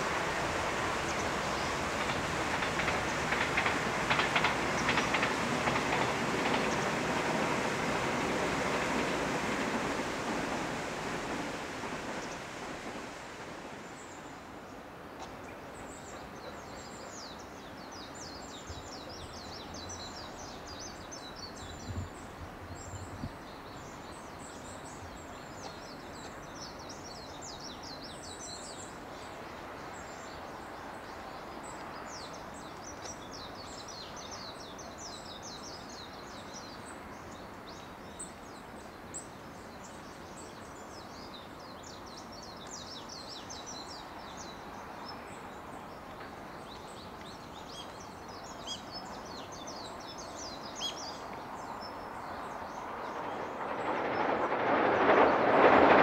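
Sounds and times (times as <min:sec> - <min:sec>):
train rumble: 0:00.0 - 0:39.0, 0:42.1 - 0:56.0.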